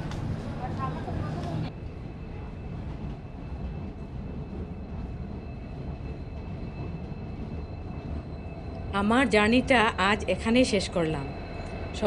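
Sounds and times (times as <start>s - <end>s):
train coaches rumbling over rails: 0.0s - 12.0s.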